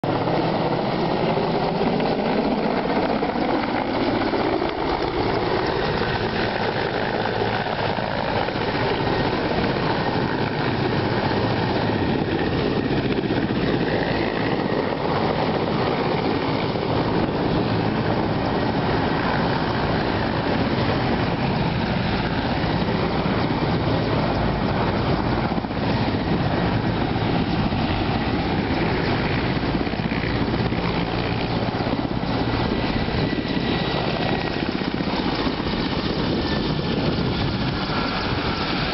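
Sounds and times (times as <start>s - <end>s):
helicopter rotor beating: 0.0s - 38.9s
turbine engine whine: 0.0s - 38.9s.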